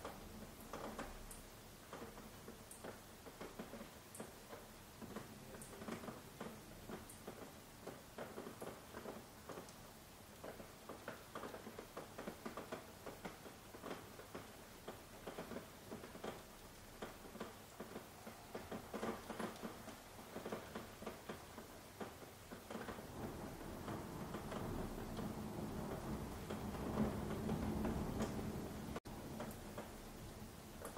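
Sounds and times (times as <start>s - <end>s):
low rushing of rain: 0.0s - 30.9s
raindrops ticking on hard surface: 0.0s - 30.9s.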